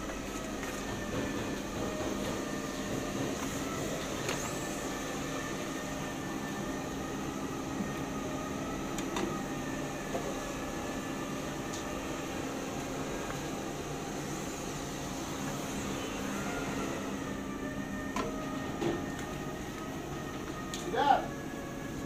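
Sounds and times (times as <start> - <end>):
fan and motor hum: 0.0 - 22.0.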